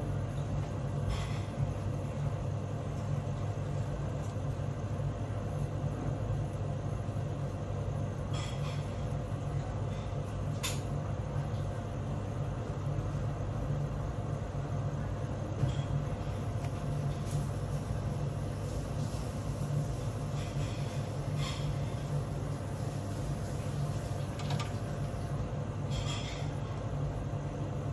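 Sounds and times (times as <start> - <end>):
low machine hum: 0.0 - 27.9.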